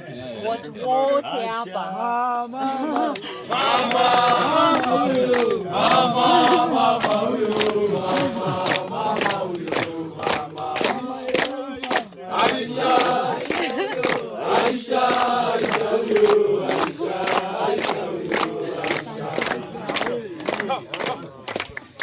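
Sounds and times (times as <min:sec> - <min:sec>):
group singing and chanting: 0:00.0 - 0:22.0
handclaps in time: 0:03.0 - 0:22.0.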